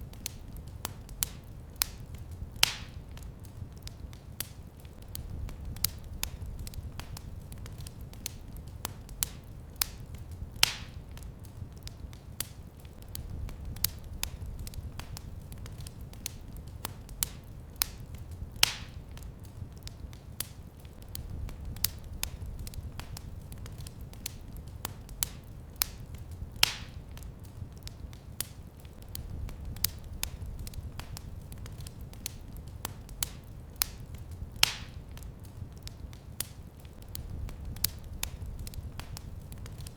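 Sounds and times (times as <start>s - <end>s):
loud fire pops: 0.0s - 11.7s, 12.4s - 39.9s
fire crackling snaps: 0.0s - 39.9s
low rumble of burning: 0.0s - 39.9s.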